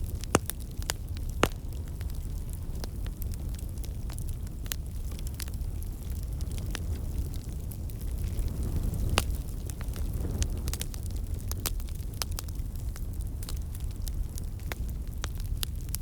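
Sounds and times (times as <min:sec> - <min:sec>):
wood fire crackling in fireplace: 0:00.0 - 0:16.0.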